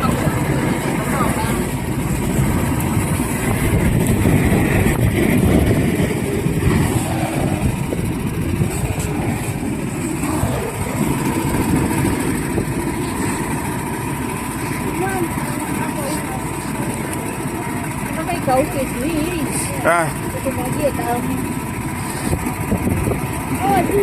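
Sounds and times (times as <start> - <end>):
machine rumbling: 0.0 - 24.0.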